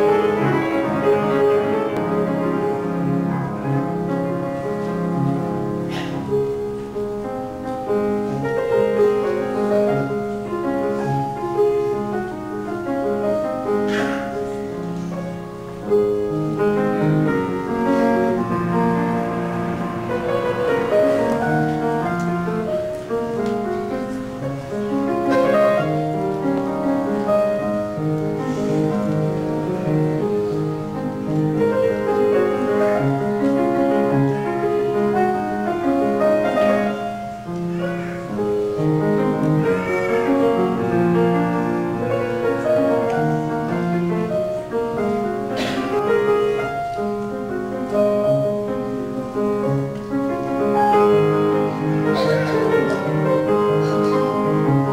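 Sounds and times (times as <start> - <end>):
grand piano playing: 0.0 - 54.9.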